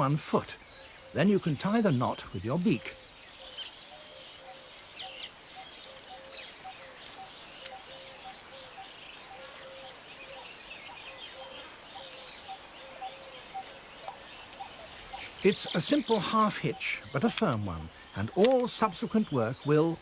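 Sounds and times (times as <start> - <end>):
weaverbirds chirping: 0.0 - 20.0.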